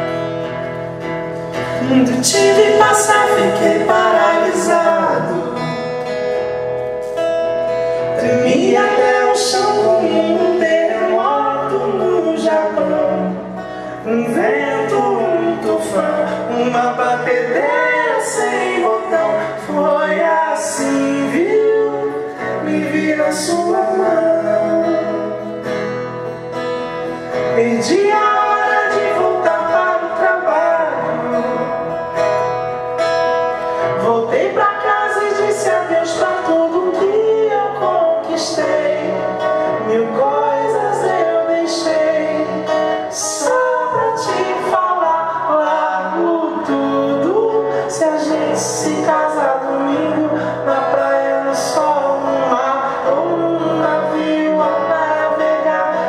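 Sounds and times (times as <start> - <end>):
guitar accompaniment: 0.0 - 56.0
person singing: 1.6 - 6.3, 7.9 - 26.1, 27.2 - 32.4, 33.6 - 56.0.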